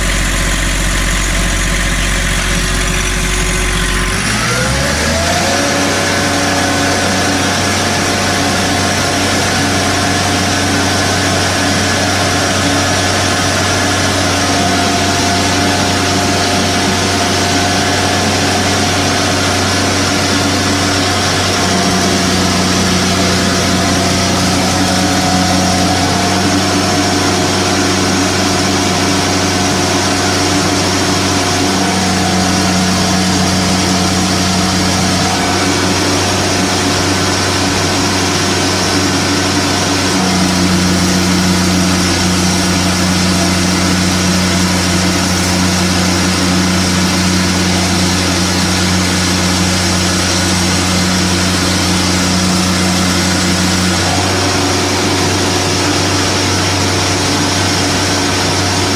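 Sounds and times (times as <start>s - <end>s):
deep hum: 0.0s - 58.9s
diesel generator running: 0.0s - 58.9s.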